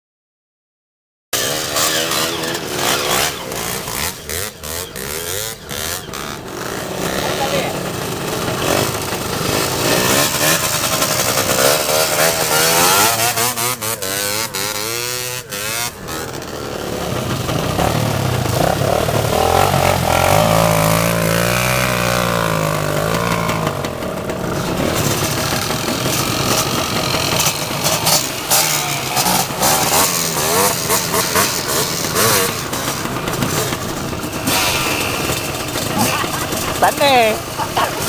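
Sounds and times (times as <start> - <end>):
dirt bike engine revving: 1.4 - 38.0.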